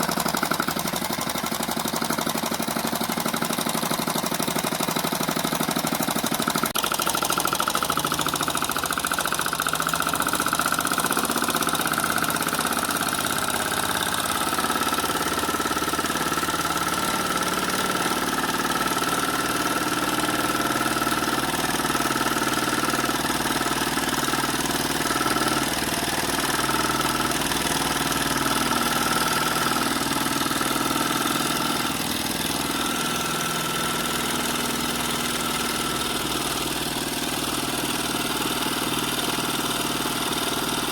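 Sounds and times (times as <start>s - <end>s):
engine mechanical clatter: 0.0s - 40.9s.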